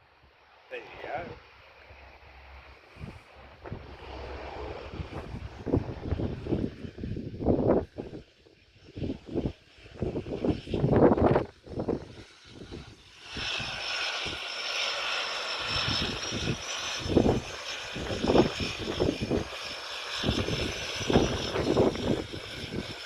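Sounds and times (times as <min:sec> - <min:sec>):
propeller engines whining: 0:00.0 - 0:23.0
wind buffeting microphone: 0:01.0 - 0:23.0.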